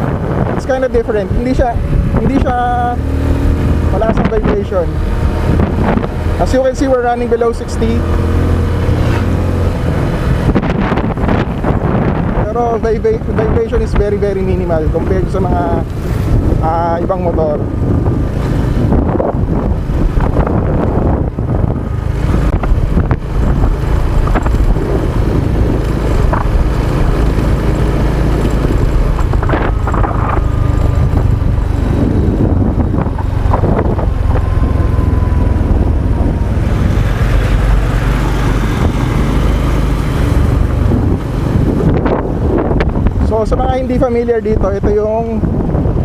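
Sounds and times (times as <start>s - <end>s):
motorcycle engine running: 0.0s - 46.0s
wind buffeting microphone: 0.0s - 46.0s.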